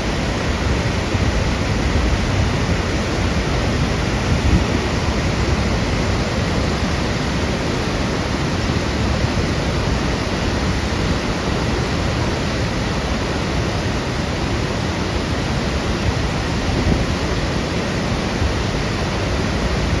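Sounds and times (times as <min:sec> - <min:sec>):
water rushing over spillway: 0:00.0 - 0:20.0.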